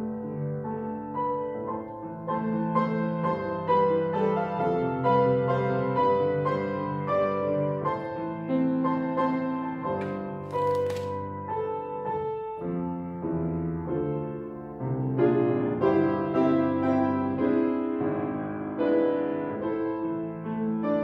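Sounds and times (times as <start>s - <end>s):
piano playing held chords: 0.0s - 21.0s.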